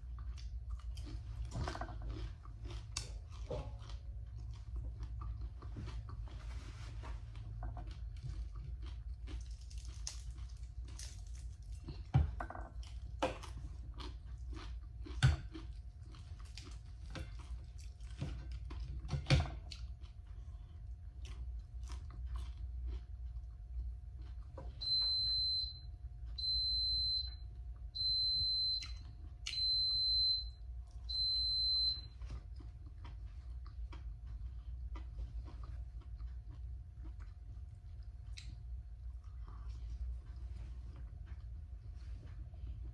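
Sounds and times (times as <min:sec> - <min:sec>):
chewing and crunching: 0:00.0 - 0:25.2, 0:27.4 - 0:42.9
faint steady hum: 0:00.0 - 0:42.9.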